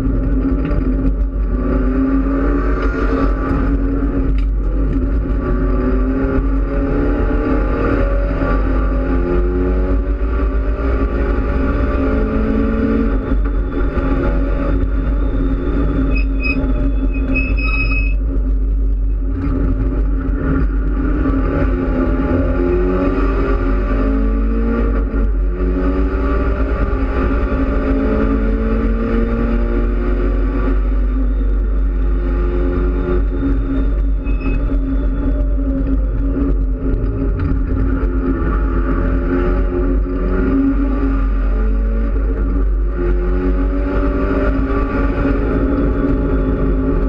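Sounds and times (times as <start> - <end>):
race car engine revving: 0.0 - 17.3, 18.3 - 47.0
road and wind noise: 0.0 - 47.0.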